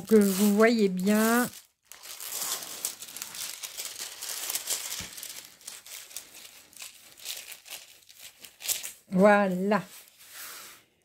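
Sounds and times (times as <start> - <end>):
plastic film crinkling: 0.0 - 10.8.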